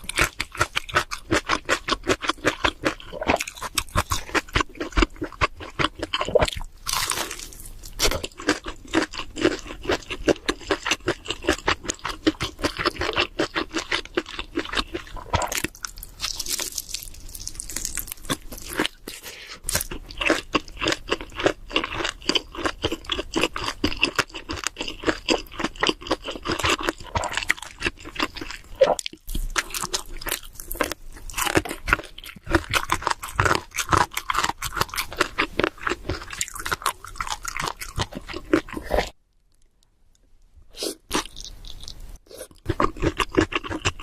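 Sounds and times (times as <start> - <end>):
chewing and crunching pizza: 0.0 - 39.7, 41.1 - 44.0.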